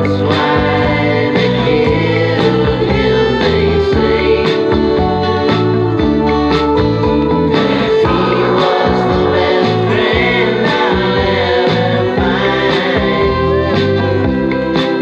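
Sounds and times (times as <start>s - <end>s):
rock guitar chords: 0.0s - 15.0s.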